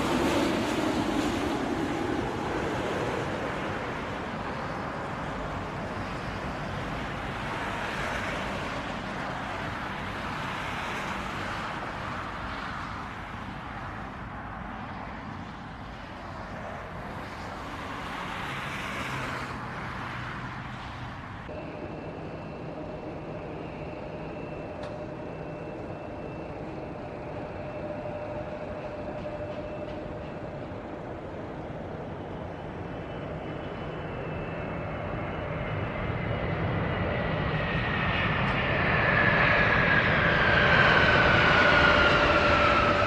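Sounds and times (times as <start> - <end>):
jet engines rushing: 0.0 - 43.0.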